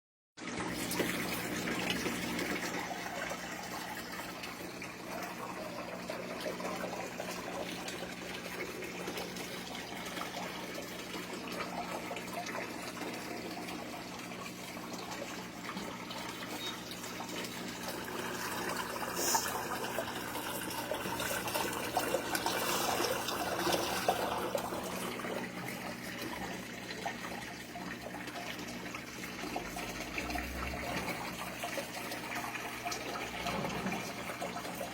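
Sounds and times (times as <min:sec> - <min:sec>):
washing machine running: 0:00.4 - 0:34.9
water sloshing in washing machine: 0:00.4 - 0:34.9.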